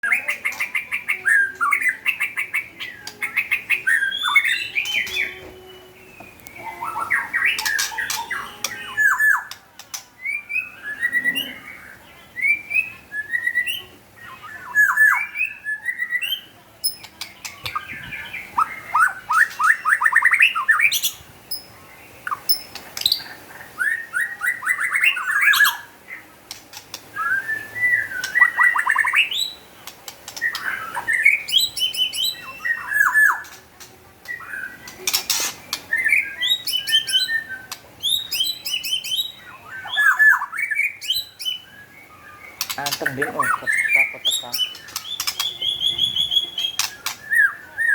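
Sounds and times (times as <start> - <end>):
bird song of whistled notes: 0.0 - 47.9.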